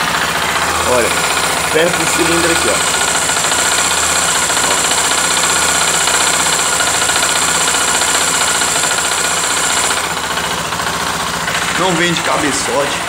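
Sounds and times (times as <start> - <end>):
engine knocking: 0.0 - 13.0
motorcycle engine running: 0.0 - 13.0.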